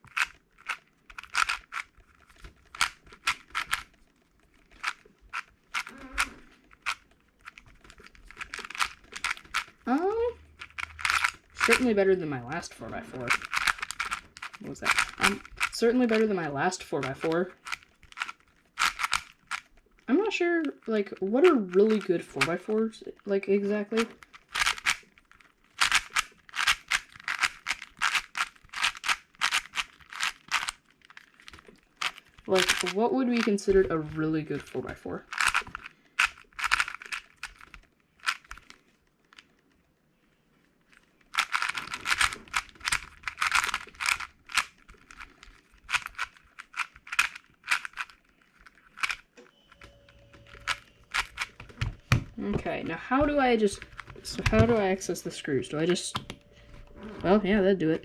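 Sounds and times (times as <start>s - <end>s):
plastic puzzle cube clacks: 0.0s - 23.2s, 24.0s - 39.8s, 40.8s - 56.4s.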